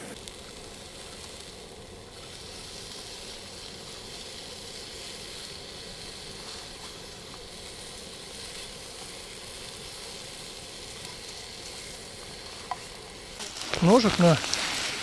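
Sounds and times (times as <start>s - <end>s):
oil sizzling in frying pan: 0.2s - 15.0s.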